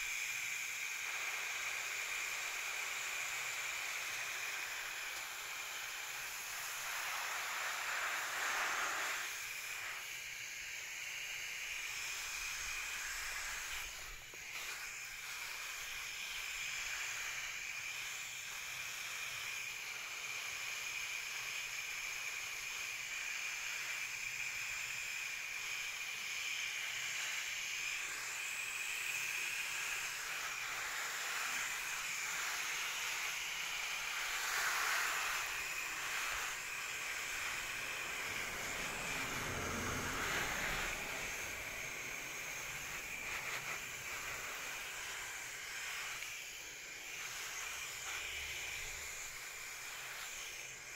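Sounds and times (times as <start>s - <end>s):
hose nozzle spraying water on plants: 0.0s - 50.9s.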